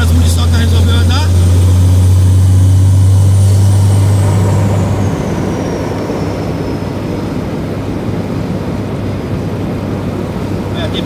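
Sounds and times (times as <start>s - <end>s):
high whine falling in pitch: 0.0s - 11.0s
road rumble: 0.0s - 11.0s
truck engine drone: 0.0s - 11.0s.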